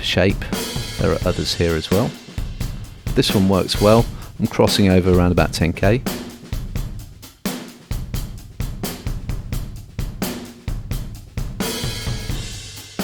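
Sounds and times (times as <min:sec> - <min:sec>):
drum kit playing a groove: 0:00.0 - 0:13.0.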